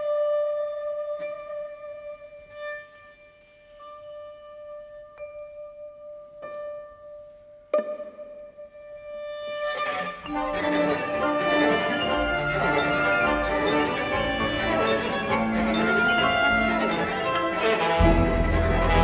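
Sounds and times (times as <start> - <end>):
chamber ensemble music: 0.0 - 19.0.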